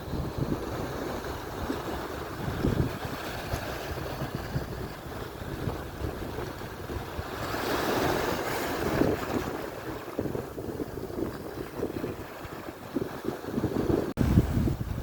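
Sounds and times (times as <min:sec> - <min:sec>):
waves washing in: 0:00.0 - 0:15.0
wind buffeting microphone: 0:00.0 - 0:15.0.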